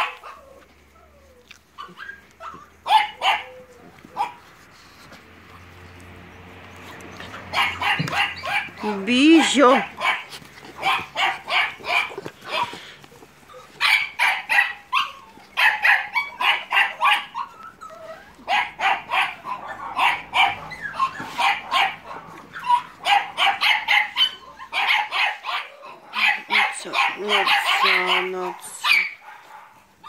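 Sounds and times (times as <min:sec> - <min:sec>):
puppies yapping: 0:00.0 - 0:30.0.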